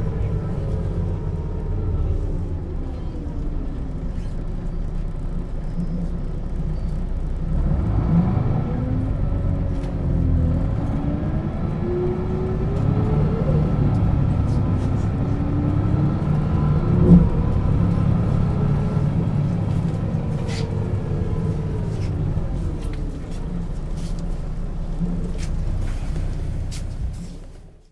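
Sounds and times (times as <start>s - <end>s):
bus engine and gearbox whine: 0.0s - 27.9s.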